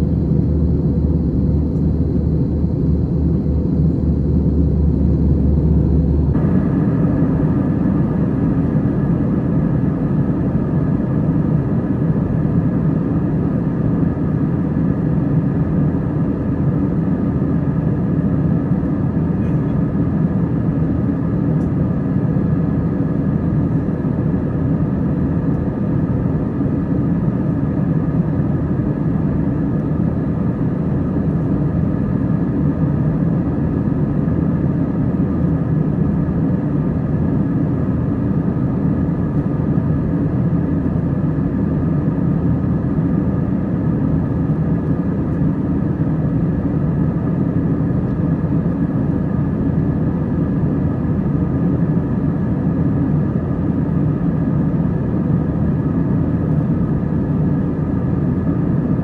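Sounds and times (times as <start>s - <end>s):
airplane cabin rumble: 0.0s - 59.0s
steady hum: 0.0s - 59.0s.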